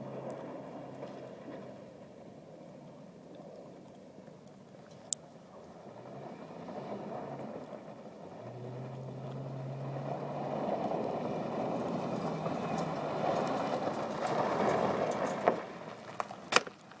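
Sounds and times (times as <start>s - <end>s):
pickup truck engine: 0.0s - 3.6s, 5.0s - 17.0s.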